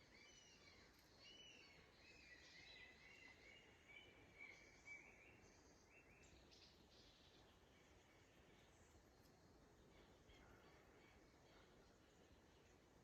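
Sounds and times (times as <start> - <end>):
low steady hiss: 0.0 - 13.0
songbird chirping: 0.0 - 13.0.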